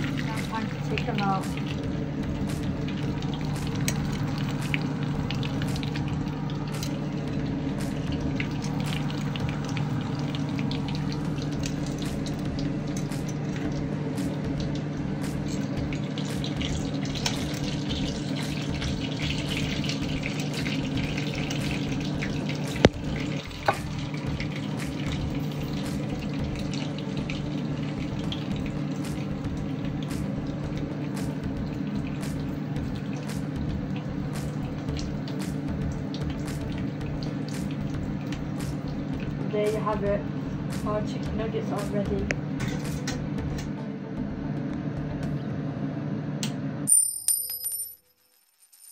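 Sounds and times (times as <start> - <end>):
chicken frying in hot oil: 0.0 - 43.6
steady low hum: 0.0 - 48.0.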